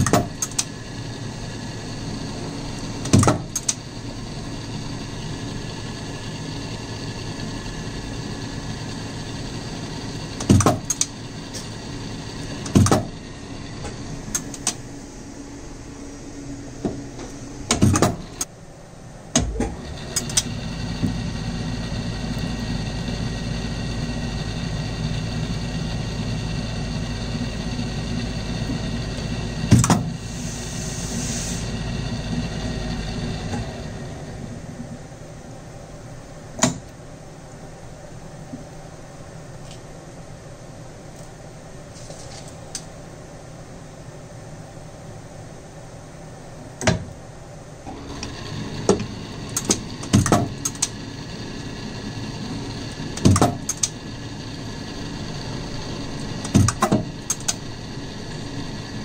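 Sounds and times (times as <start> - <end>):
metal lathe humming: 0.0 - 36.4, 47.8 - 59.0.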